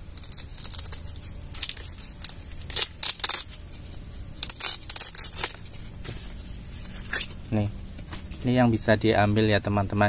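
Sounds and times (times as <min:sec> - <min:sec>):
corn leaves rustling: 0:00.0 - 0:08.6.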